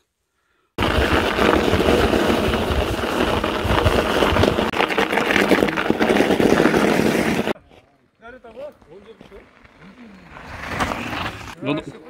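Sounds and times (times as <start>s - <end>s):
bike tyres crunching snow: 0.8s - 11.6s.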